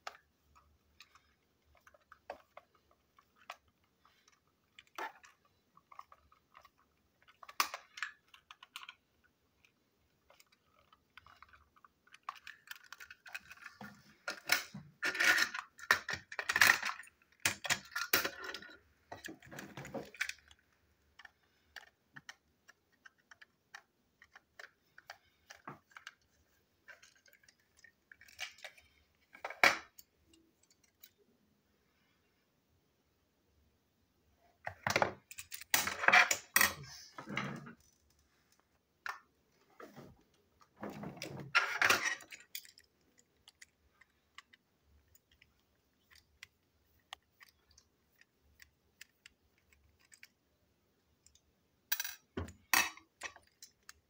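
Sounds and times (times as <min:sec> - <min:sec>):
plastic toy parts clicking: 0:00.0 - 0:31.2, 0:34.7 - 0:36.9, 0:41.5 - 0:50.4, 0:51.1 - 0:54.0.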